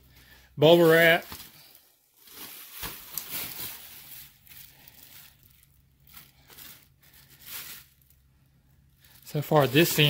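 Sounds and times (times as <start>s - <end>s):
bubble wrap crinkling: 0.6s - 10.0s.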